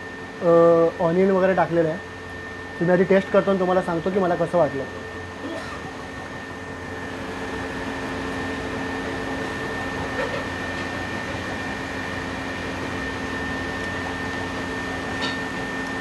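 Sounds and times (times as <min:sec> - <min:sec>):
kitchen machinery hum: 0:00.0 - 0:16.0
thin high whine: 0:00.0 - 0:16.0.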